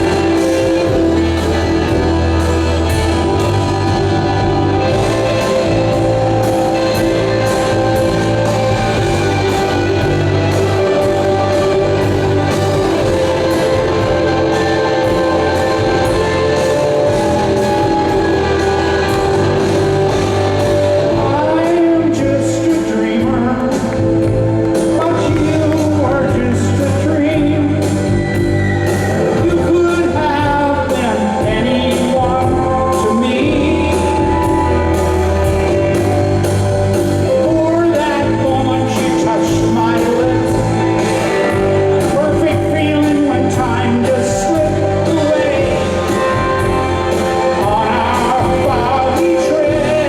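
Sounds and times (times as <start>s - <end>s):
drums: 0.0s - 50.0s
electric guitar: 0.0s - 50.0s
live rock band playing: 0.0s - 50.0s
person singing: 0.0s - 50.0s.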